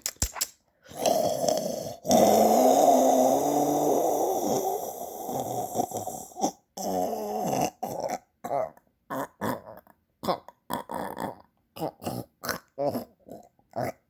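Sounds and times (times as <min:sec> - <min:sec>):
person snoring and snorting: 0:00.9 - 0:14.0.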